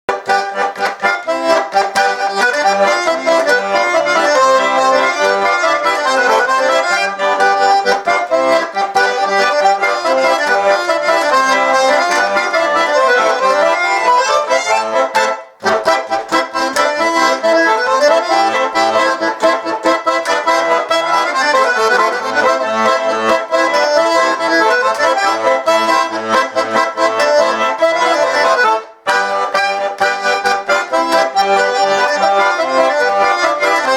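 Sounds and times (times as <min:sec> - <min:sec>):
button accordion playing folk tune: 0:00.1 - 0:33.9.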